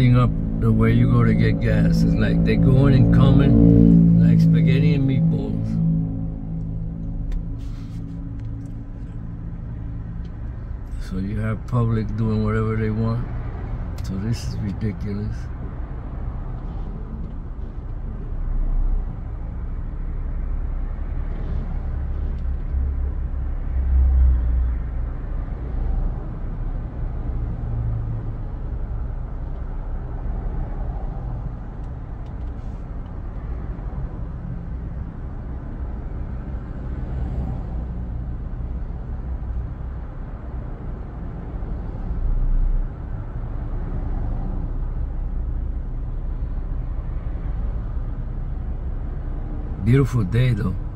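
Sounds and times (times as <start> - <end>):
car engines rumbling: 0.0 - 50.9.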